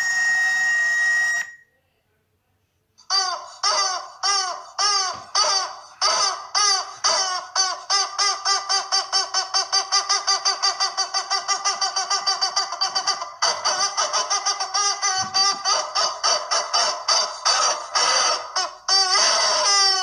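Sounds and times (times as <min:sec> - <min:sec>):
squawking chicken-like call: 0:00.0 - 0:01.6, 0:03.1 - 0:20.0.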